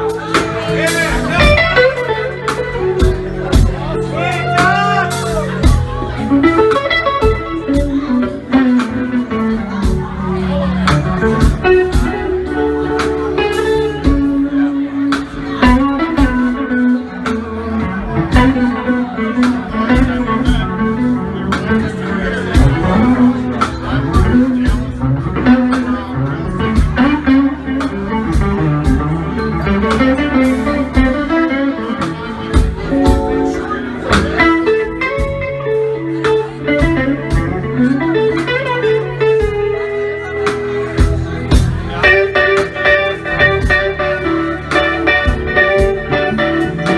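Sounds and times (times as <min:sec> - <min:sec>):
bass: 0:00.0 - 0:46.9
electric guitar: 0:00.0 - 0:46.9
live band playing: 0:00.0 - 0:46.9.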